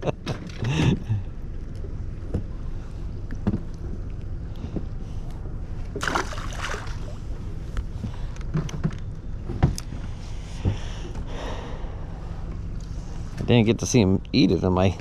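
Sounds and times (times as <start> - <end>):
boat rumbling: 0.0 - 15.0.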